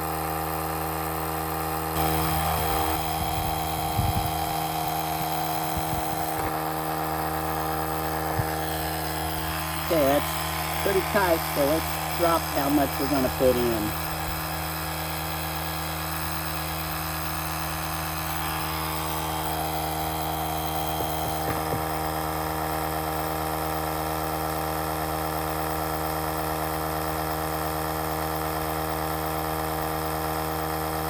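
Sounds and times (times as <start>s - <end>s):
tire compressor running: 0.0s - 31.0s.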